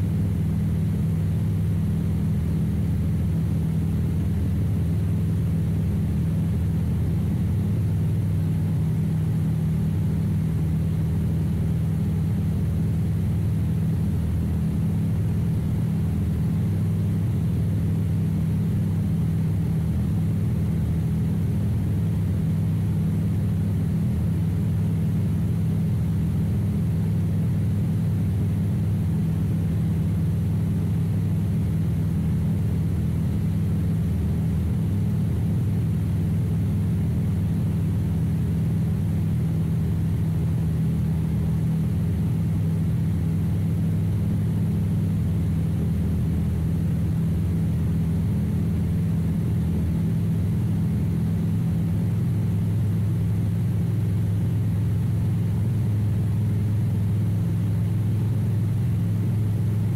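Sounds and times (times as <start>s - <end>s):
airplane engine and propeller drone: 0.0s - 59.9s.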